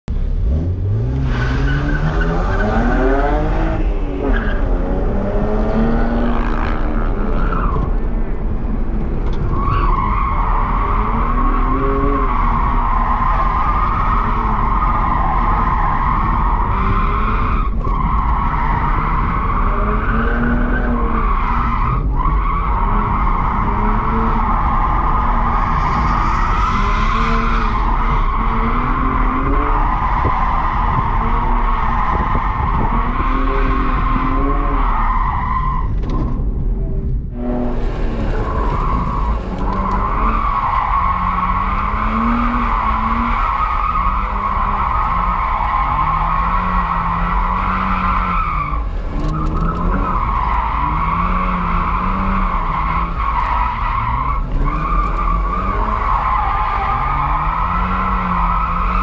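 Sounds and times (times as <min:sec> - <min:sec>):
car engine revving: 0:00.1 - 0:59.0.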